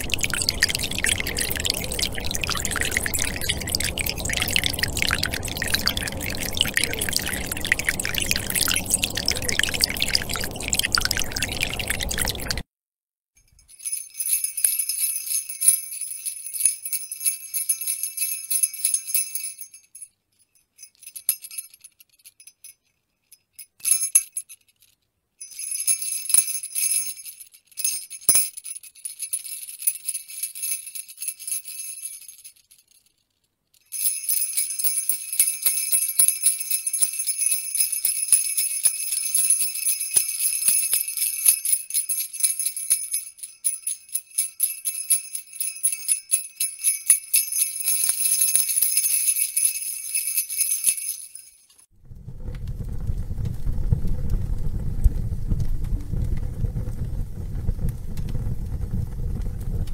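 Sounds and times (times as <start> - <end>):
tinkling bell-like chimes: 0.0 - 12.6, 13.5 - 24.7, 25.4 - 33.0, 33.8 - 51.9.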